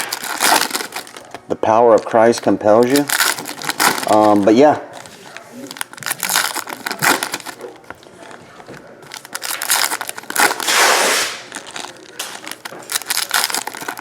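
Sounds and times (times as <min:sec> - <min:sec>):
card wrappers crinkling: 0:00.0 - 0:14.0
wrapper ripping: 0:00.0 - 0:14.0.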